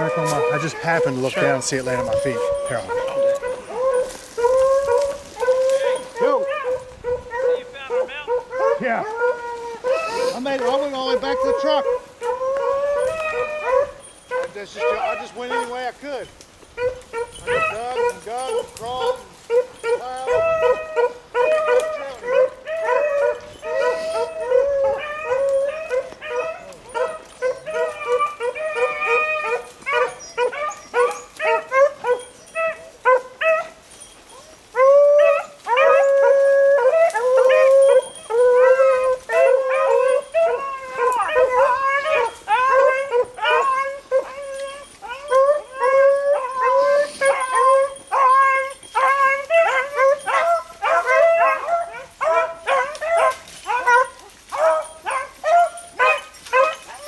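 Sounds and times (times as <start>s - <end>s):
hounds baying: 0.0s - 57.0s.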